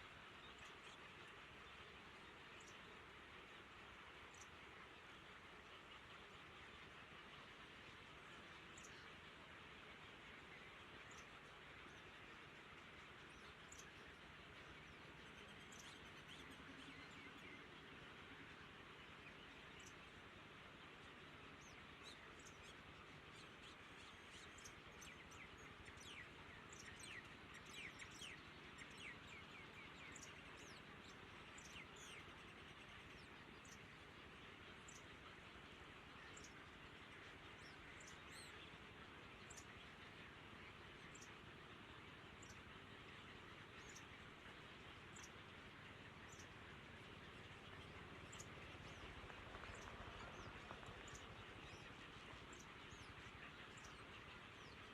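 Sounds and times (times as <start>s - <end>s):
steady outdoor hiss: 0.0s - 54.9s.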